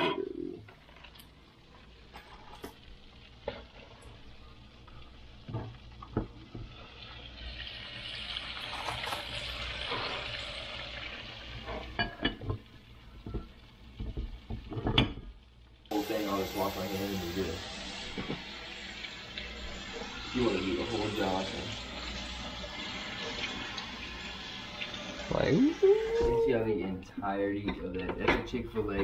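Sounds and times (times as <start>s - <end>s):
fish deep-frying in hot oil: 0.0s - 29.0s.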